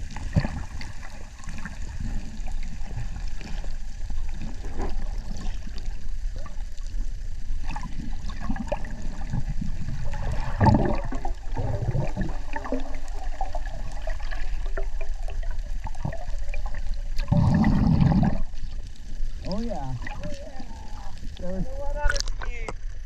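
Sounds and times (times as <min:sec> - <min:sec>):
muffled water swishing underwater: 0:00.0 - 0:23.0.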